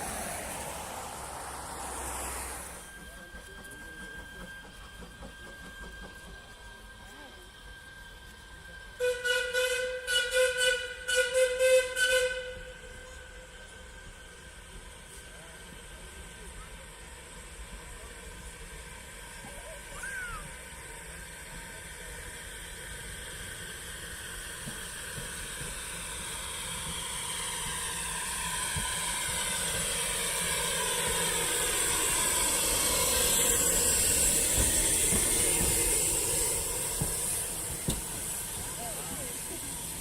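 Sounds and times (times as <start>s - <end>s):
train approaching with hiss: 0.0s - 40.0s.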